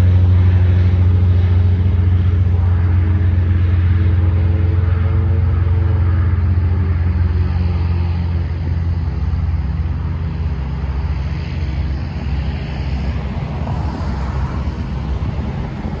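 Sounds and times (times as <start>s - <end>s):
propeller plane droning: 0.0s - 16.0s.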